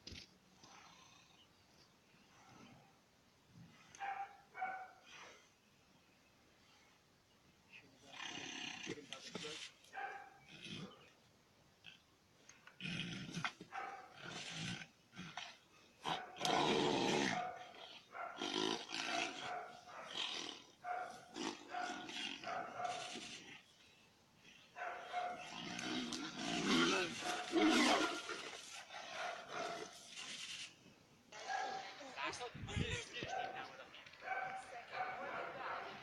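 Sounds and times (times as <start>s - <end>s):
animals growling and snarling: 0.2s - 1.6s, 8.0s - 36.0s.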